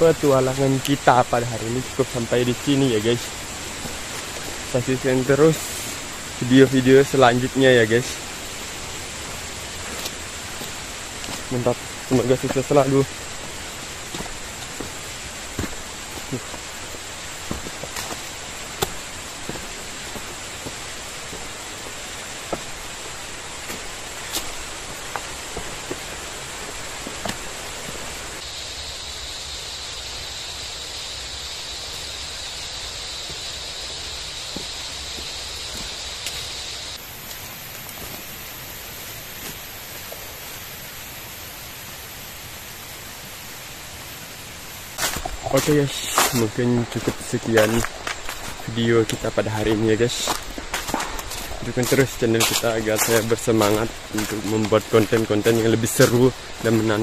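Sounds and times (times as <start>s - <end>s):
footsteps on leaf litter: 0.0s - 28.4s, 33.2s - 38.4s, 44.9s - 57.0s
high insect buzz: 0.0s - 57.0s
low insect drone: 0.0s - 57.0s
steady hiss: 0.0s - 57.0s.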